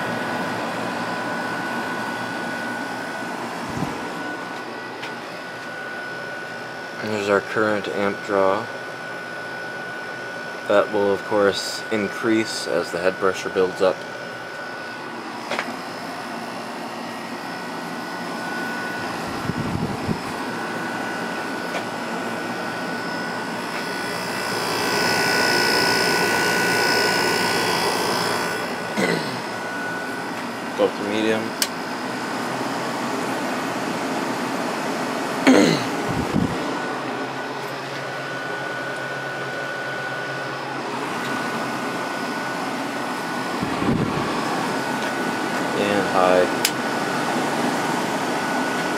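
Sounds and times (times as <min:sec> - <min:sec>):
faint steady whine: 0:00.0 - 0:32.5, 0:35.5 - 0:47.0
air conditioner running: 0:00.0 - 0:48.9.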